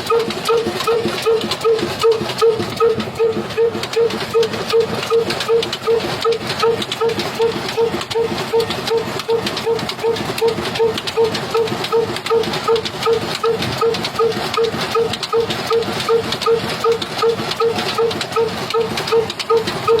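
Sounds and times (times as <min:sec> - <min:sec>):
diesel engine running slowly: 0:00.0 - 0:20.0
mill mechanical clatter: 0:00.0 - 0:20.0.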